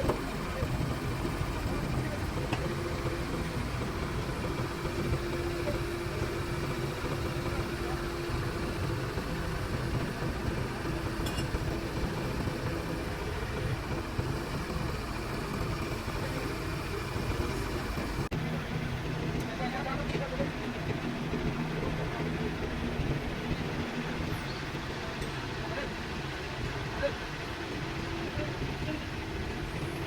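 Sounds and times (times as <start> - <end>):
truck engine idling: 0.0 - 26.4.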